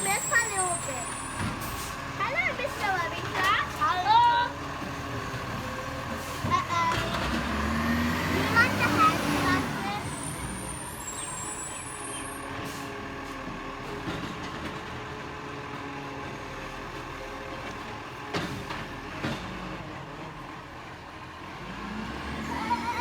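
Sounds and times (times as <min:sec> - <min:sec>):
rubbish truck engine running: 0:00.0 - 0:23.0.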